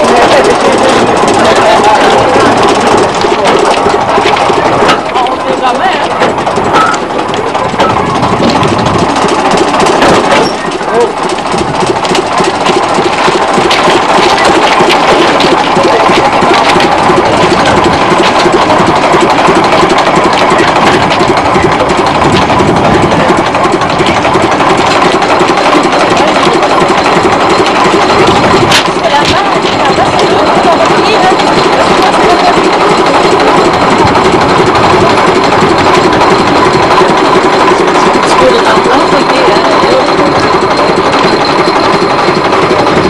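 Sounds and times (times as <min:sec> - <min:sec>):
light mechanical clatter: 0:00.0 - 0:43.0
locomotive engine running: 0:00.0 - 0:43.0.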